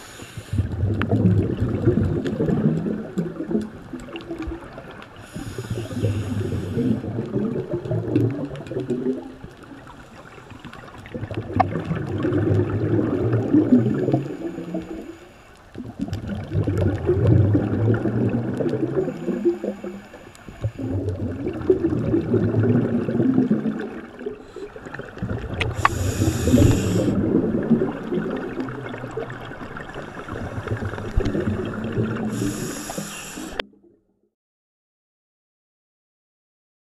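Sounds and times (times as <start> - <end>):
underwater breath bubbles gurgling: 0.0 - 33.7.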